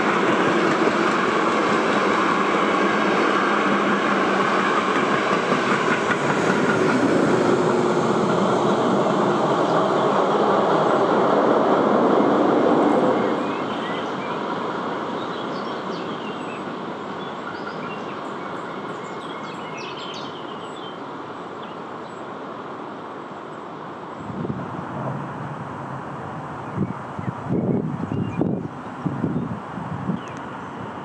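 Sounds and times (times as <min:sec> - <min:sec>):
train wheels rumbling on track: 0:00.0 - 0:20.4, 0:23.2 - 0:31.0.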